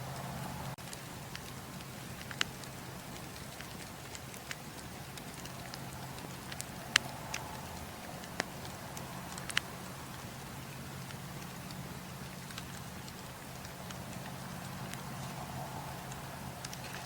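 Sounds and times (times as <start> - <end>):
fire hissing: 0.0 - 16.9
fire crackling and popping: 0.1 - 17.0.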